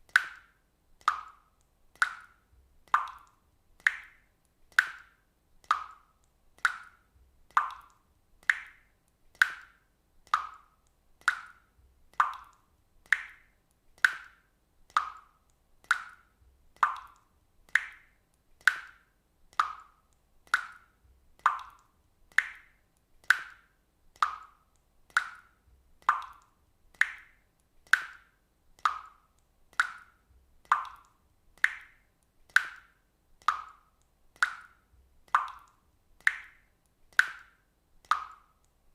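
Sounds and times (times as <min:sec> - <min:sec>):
water droplets plopping into water: 0:00.1 - 0:38.7.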